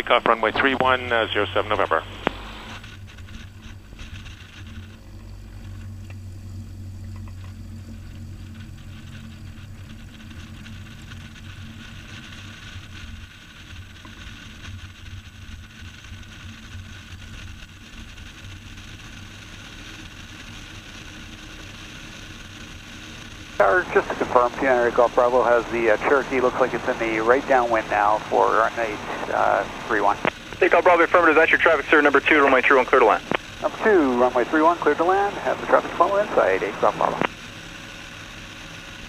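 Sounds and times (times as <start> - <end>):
airplane engine humming in cabin: 0.0 - 39.0.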